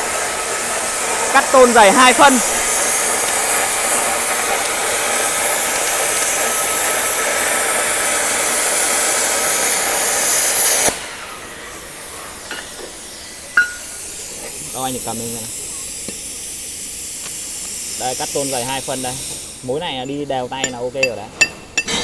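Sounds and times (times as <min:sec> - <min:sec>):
plasma cutter hissing: 0:00.0 - 0:22.0.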